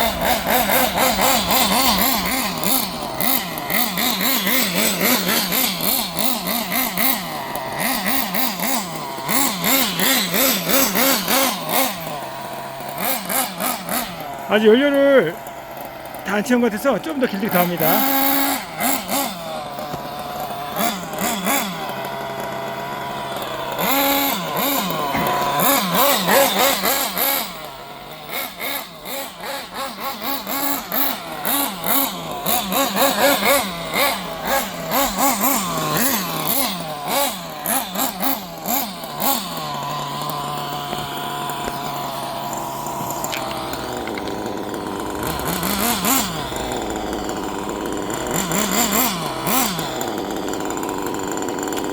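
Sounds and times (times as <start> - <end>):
small glow engine revving: 0.0 - 51.9.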